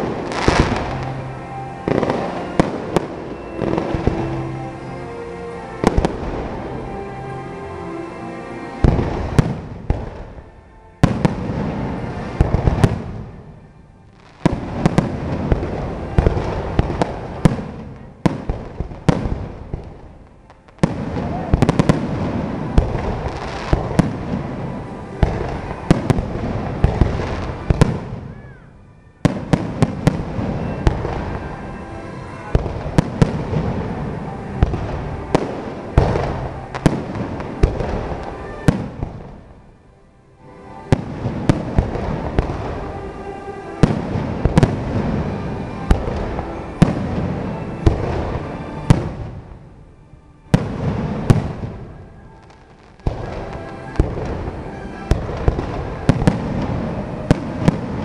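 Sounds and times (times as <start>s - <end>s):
fireworks bursts and crackling: 0.0s - 7.4s, 8.5s - 39.8s, 40.4s - 49.8s, 50.4s - 58.0s.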